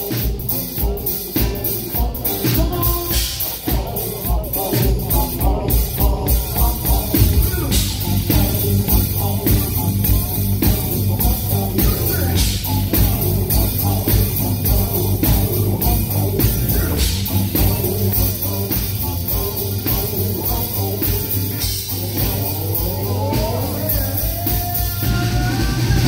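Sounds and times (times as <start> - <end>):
drums keeping a beat: 0.0 - 26.0
electric bass: 0.0 - 26.0
electric guitar: 0.0 - 26.0
keyboard: 0.0 - 26.0
man singing: 0.0 - 26.0.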